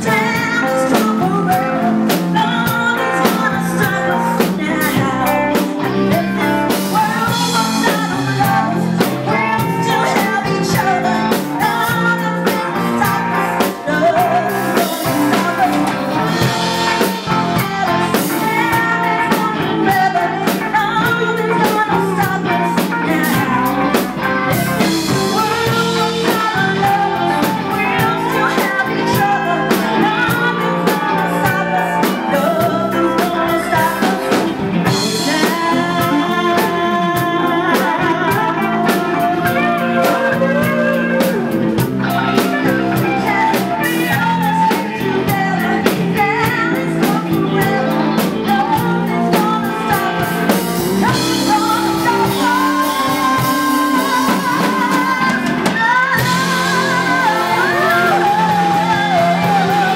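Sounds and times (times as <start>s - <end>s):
drum kit: 0.0s - 59.9s
guitar: 0.0s - 59.9s
woman singing into microphone: 0.0s - 59.9s.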